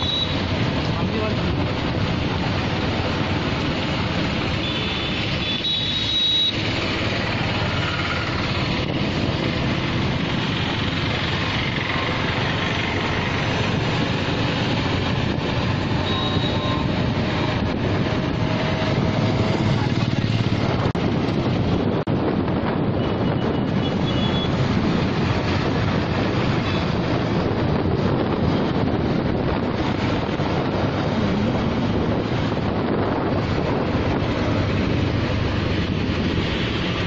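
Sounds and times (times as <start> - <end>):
vehicle engine on road: 0.0 - 37.0.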